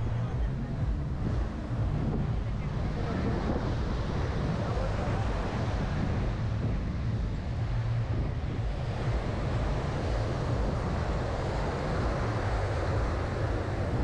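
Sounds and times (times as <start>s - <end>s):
surf washing on a beach: 0.0s - 14.0s
wind buffeting microphone: 0.0s - 14.0s.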